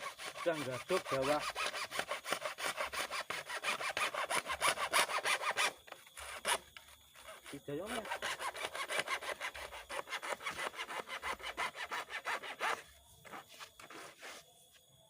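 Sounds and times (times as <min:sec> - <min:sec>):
hand saw cutting pipe: 0:00.0 - 0:06.6, 0:07.2 - 0:12.8.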